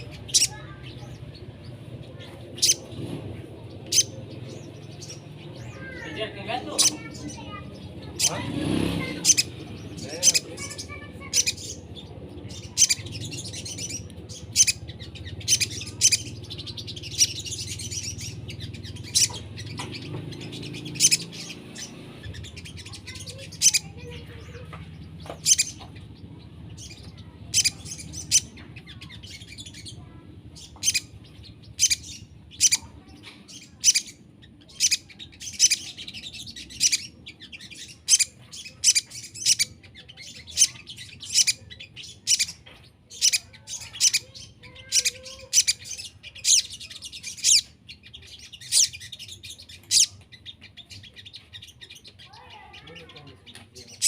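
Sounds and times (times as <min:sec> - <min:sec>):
bird chipping calls: 0:00.0 - 0:54.0
bird twittering song: 0:00.0 - 0:54.0.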